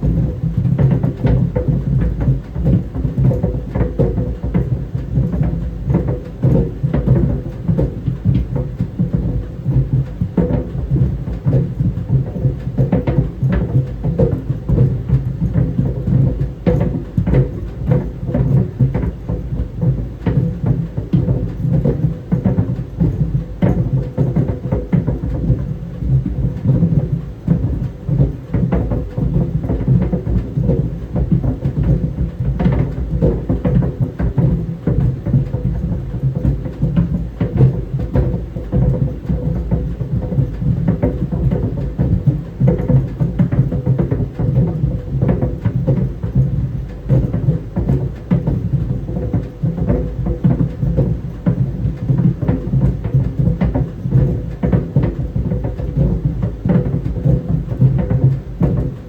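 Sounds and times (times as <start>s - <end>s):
dryer drum rumbling: 0.0s - 59.0s.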